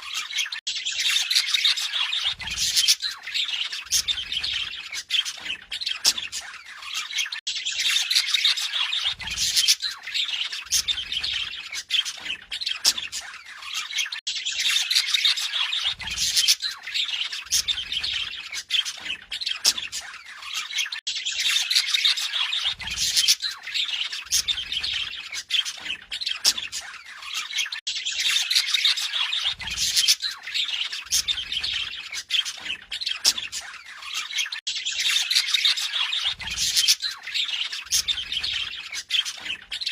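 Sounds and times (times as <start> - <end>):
budgerigars warbling and chattering: 0.0 - 39.9.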